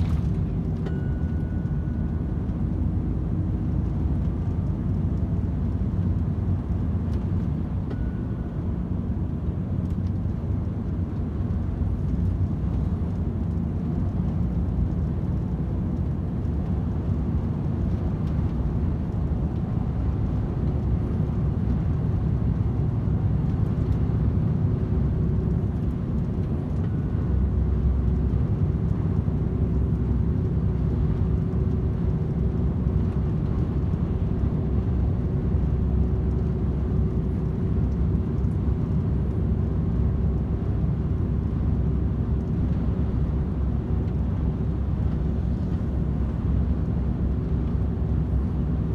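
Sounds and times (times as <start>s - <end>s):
lorry diesel engine rumble: 0.0s - 48.9s.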